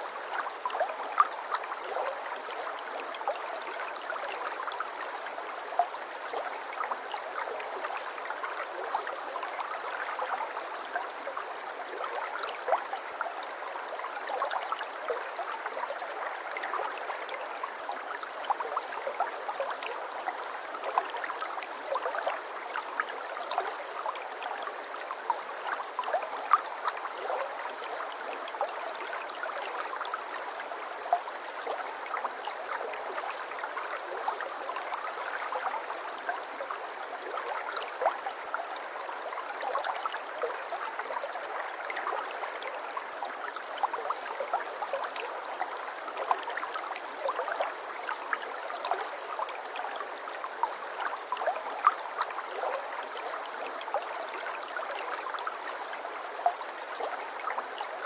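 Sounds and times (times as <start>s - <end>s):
shallow brook babbling: 0.0s - 58.0s.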